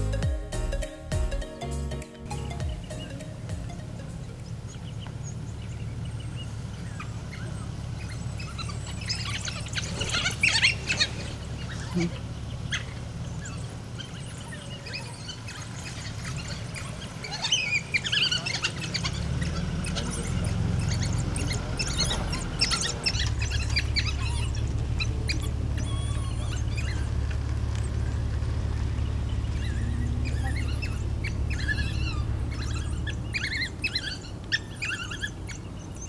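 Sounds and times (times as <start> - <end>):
wild dogs chirping and squealing: 4.3 - 36.0.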